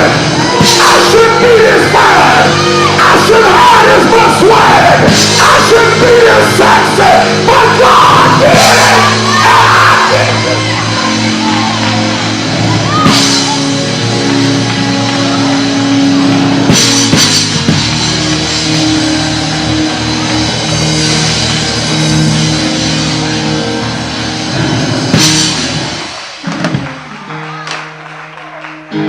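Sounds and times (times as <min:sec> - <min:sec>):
drum kit: 0:00.0 - 0:28.0
held keyboard chords: 0:00.0 - 0:29.0.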